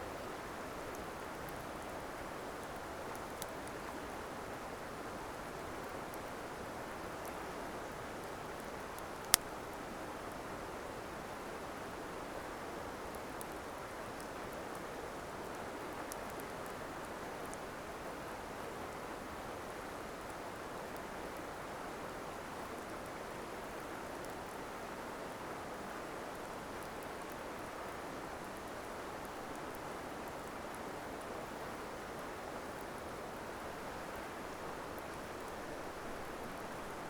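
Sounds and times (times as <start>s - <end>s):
campfire crackles: 0.0s - 37.0s.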